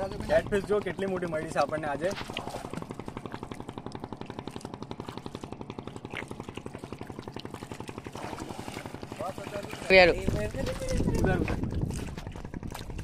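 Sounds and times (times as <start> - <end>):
motor engine chugging: 0.0 - 13.0.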